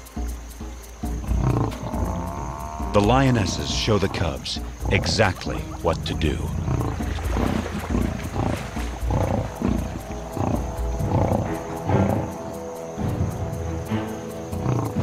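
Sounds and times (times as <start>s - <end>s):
music score: 0.0s - 15.0s
lions growling: 1.1s - 13.7s, 14.4s - 15.0s.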